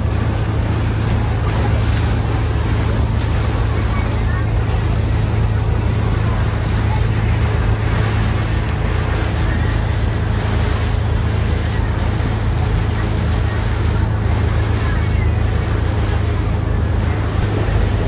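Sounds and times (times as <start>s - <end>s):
boat engine humming: 0.0s - 18.0s
water rushing along hull: 0.0s - 18.0s.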